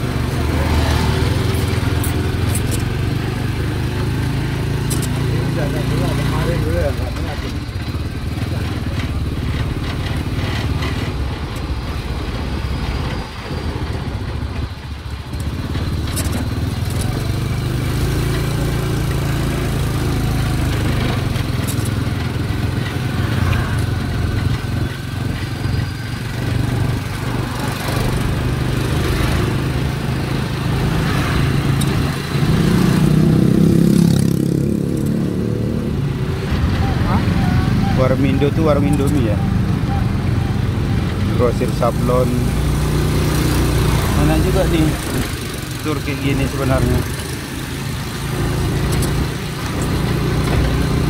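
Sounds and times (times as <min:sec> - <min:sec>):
small motorcycle engine running: 0:00.0 - 0:51.0.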